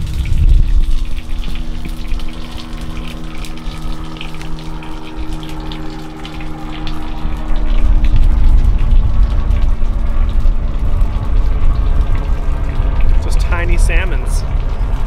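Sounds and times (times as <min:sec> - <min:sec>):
water sloshing against hull: 0:00.0 - 0:13.5
boat motor humming: 0:00.0 - 0:15.0
wind rumble on microphone: 0:00.0 - 0:15.0.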